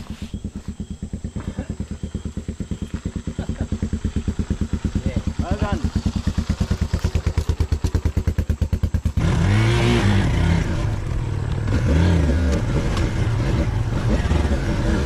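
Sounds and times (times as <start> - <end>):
dirt bike engine idling: 0.0 - 15.0
motorcycle engine revving: 0.0 - 15.0.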